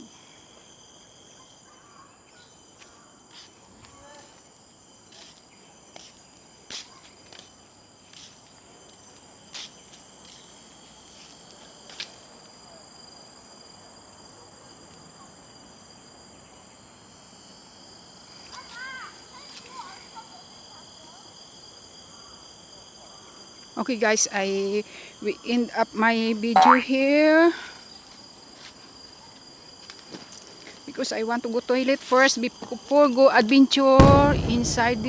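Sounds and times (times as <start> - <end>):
insects buzzing: 0.0 - 35.0.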